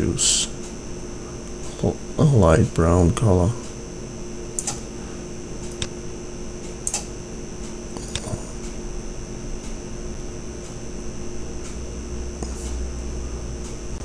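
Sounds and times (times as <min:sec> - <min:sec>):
faint high whine: 0:00.0 - 0:14.0
fan hum: 0:00.0 - 0:14.0.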